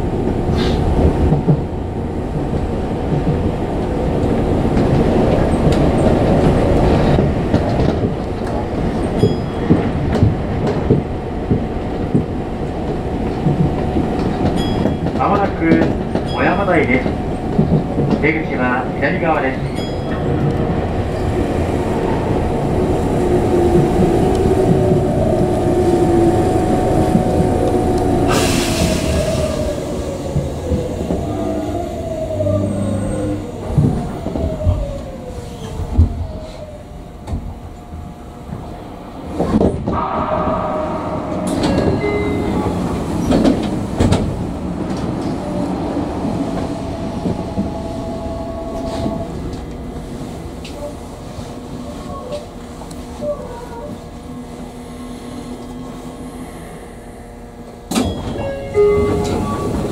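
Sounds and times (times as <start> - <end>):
train running noise: 0.0 - 59.9.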